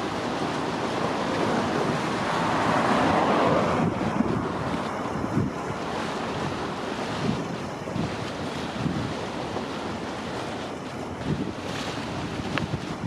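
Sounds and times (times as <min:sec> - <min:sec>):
wind and water rushing: 0:00.0 - 0:13.0
wind buffeting microphone: 0:00.0 - 0:13.0.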